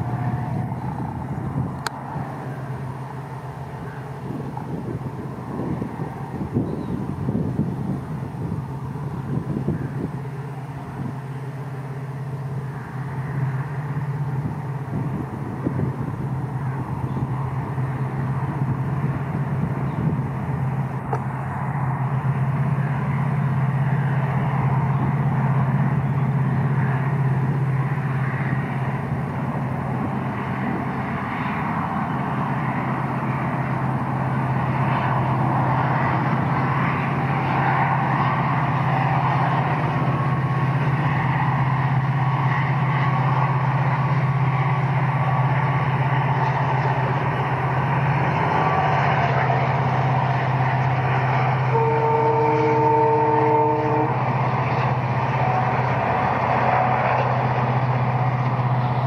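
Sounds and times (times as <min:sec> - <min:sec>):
diesel locomotive engine drone: 0:00.0 - 0:59.0
train rumbling on track: 0:00.0 - 0:59.0.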